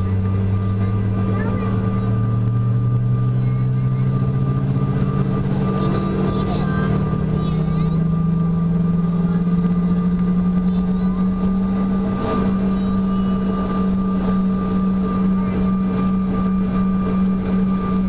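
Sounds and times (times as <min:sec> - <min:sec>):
jet engines droning and whining: 0:00.0 - 0:18.0.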